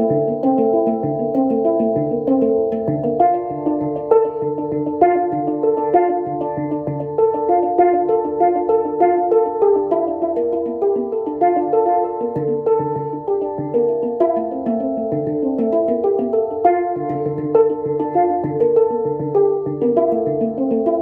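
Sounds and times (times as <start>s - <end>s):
handpan ringing notes: 0.0s - 21.0s.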